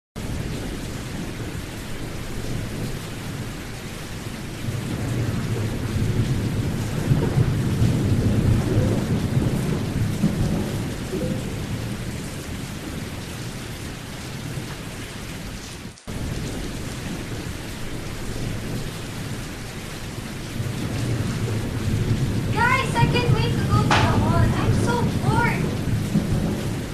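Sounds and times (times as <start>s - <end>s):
rolling thunder: 0.2s - 14.8s, 16.1s - 26.9s
steady rain: 0.2s - 26.9s.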